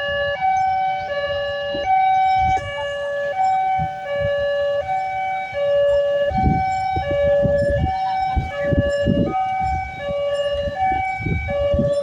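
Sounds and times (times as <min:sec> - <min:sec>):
two-tone siren: 0:00.0 - 0:12.0.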